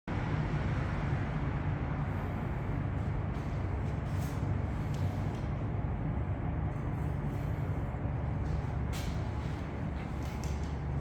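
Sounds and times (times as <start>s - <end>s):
low mechanical rumble: 0.1s - 11.0s.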